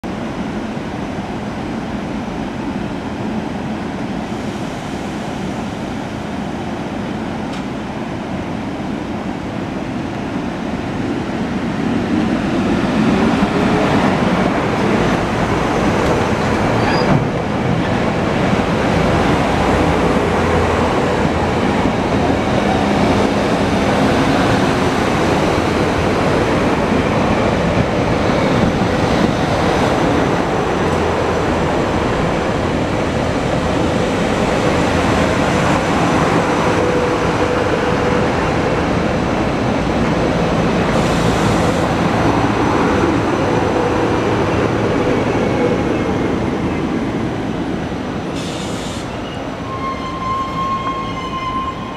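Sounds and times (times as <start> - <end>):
train wheels on rails: 4.2 - 51.9.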